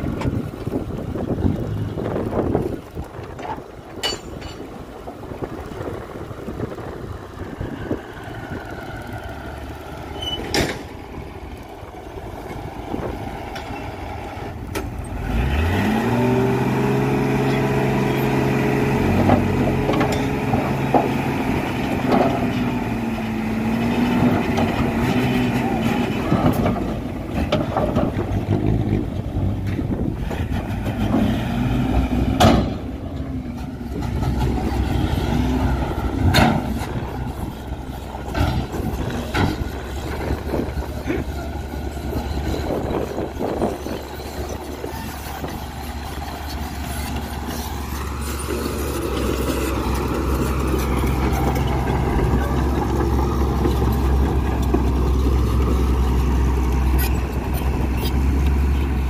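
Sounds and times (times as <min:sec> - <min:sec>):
dump truck tipping soil: 0:00.0 - 0:59.0
heavy diesel engines rumbling: 0:00.0 - 0:59.0.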